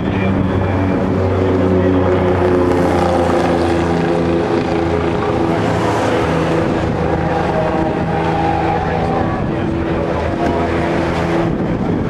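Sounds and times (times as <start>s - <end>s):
race car engines idling: 0.0s - 12.0s.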